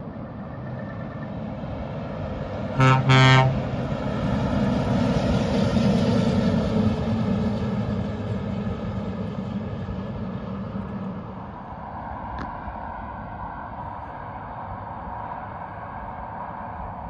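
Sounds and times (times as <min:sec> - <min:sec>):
heavy truck driving past: 0:00.0 - 0:17.0.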